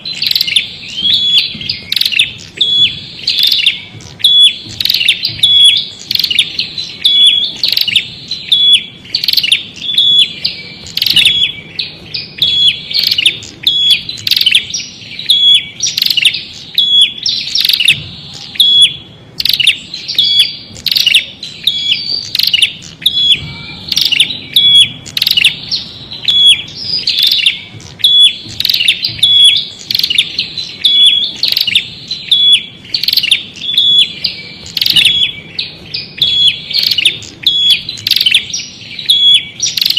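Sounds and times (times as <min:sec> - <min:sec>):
bird sharp high chirps: 0:00.0 - 0:39.9.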